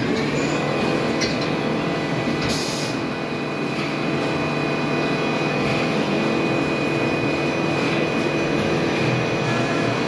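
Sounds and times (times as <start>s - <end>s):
lathe running with high whine: 0.0s - 10.0s.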